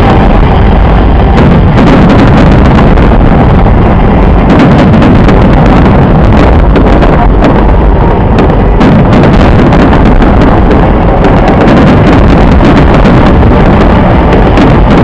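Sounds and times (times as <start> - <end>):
fireworks booming and crackling: 0.0 - 15.0.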